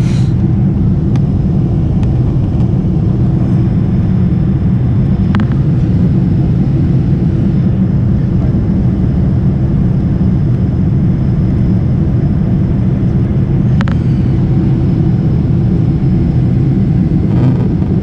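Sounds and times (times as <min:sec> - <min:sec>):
airplane cabin engine roar: 0:00.0 - 0:18.0.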